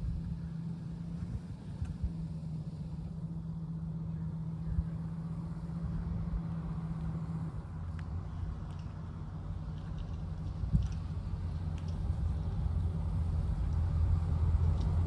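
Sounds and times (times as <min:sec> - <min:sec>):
pickup truck engine droning: 0:00.0 - 0:15.0.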